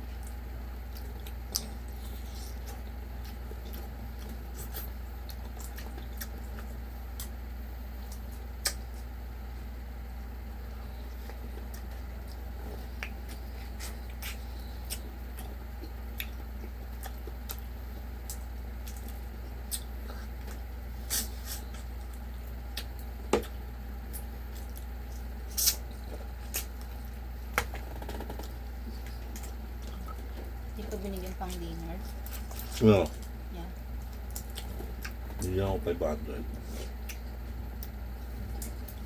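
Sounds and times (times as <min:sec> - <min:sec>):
steady low hum: 0:00.0 - 0:39.0
wet chewing and lip smacks: 0:00.1 - 0:07.4, 0:08.0 - 0:09.6, 0:10.9 - 0:35.6, 0:36.6 - 0:39.0.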